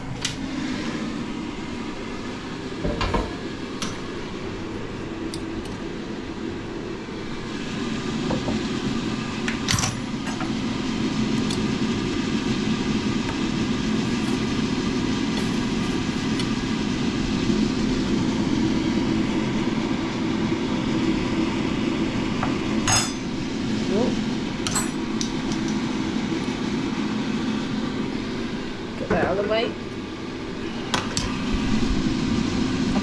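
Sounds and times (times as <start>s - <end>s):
air fryer fan humming: 0.0s - 33.0s.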